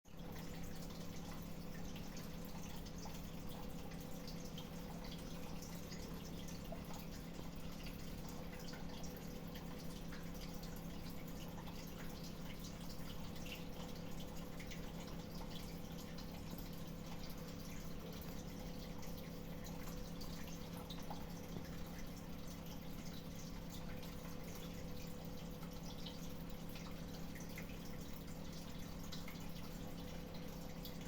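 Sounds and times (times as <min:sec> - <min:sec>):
water dripping and splashing: 0:00.1 - 0:31.0.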